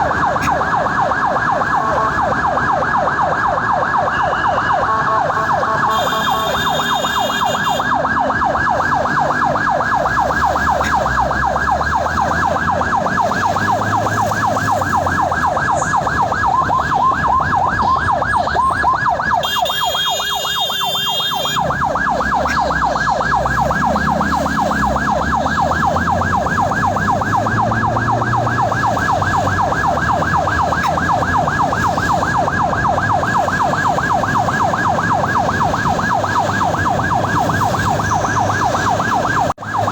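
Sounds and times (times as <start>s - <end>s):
ambulance siren yelping: 0.0s - 39.9s.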